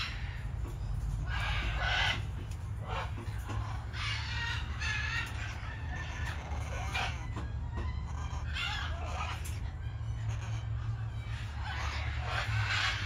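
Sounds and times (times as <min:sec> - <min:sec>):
birds squawking: 0:00.0 - 0:13.0.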